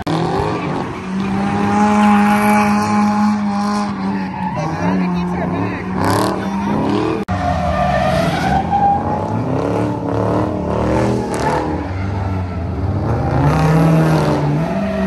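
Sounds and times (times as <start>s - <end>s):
car engine revving hard: 0.0s - 15.0s.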